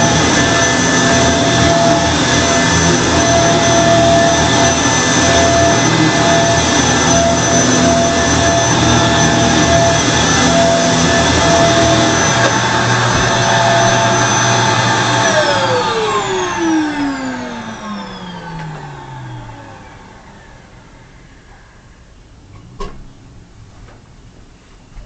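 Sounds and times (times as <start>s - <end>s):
motor winding down whine: 0.0s - 21.1s
vacuum cleaner running: 0.0s - 21.1s.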